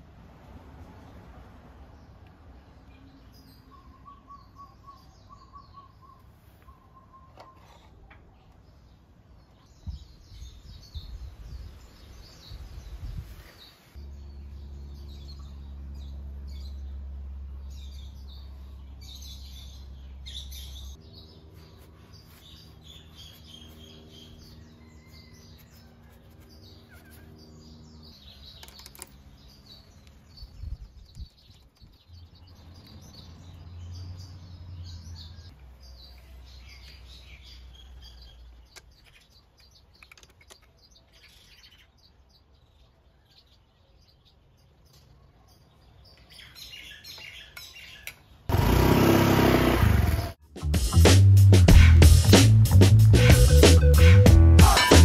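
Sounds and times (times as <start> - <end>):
small birds chirping: 0.8 - 50.5.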